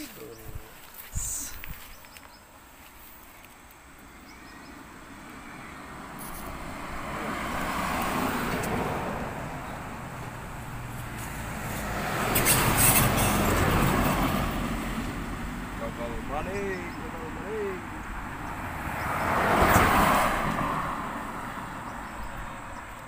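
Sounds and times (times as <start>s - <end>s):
road vehicles passing: 0.0s - 23.0s.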